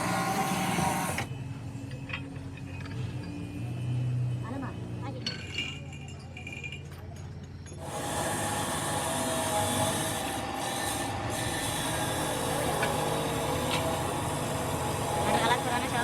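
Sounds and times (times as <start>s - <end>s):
steady mechanical machine noise: 0.0s - 5.0s, 6.4s - 16.0s.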